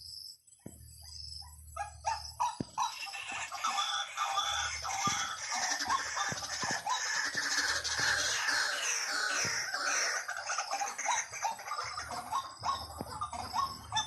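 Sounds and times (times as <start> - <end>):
bird clucking and croaking calls: 1.0 - 14.0.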